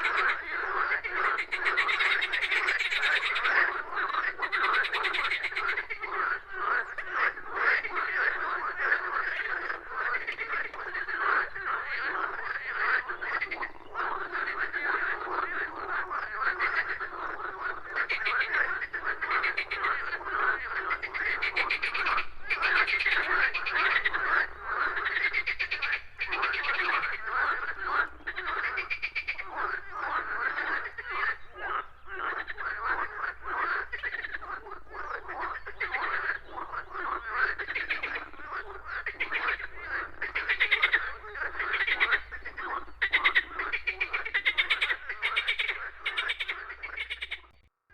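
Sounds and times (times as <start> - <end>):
chorus of frogs croaking: 0.0 - 47.7.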